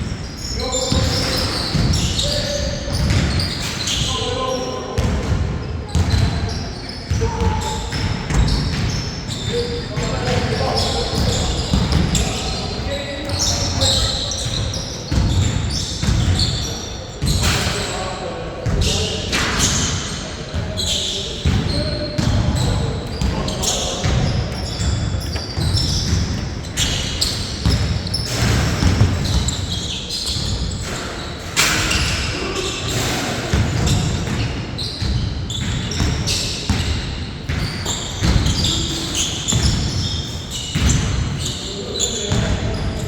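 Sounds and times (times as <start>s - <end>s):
basketball bouncing on court: 0.9s - 4.0s, 5.0s - 16.6s, 18.6s - 31.0s, 32.9s - 41.5s.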